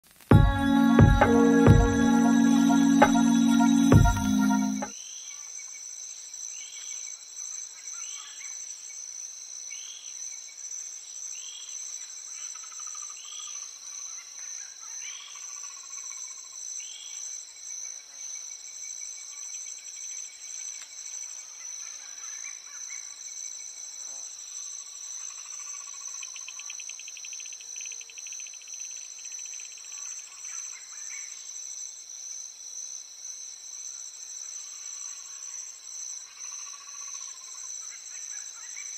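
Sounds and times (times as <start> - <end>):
high-pitched insect chorus: 0.5 - 38.9.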